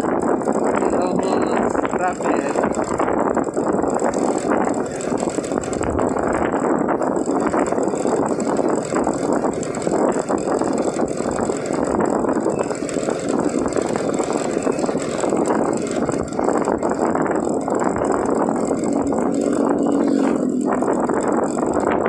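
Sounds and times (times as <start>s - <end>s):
road noise: 0.0s - 22.0s
small motorbike engine running: 0.0s - 22.0s.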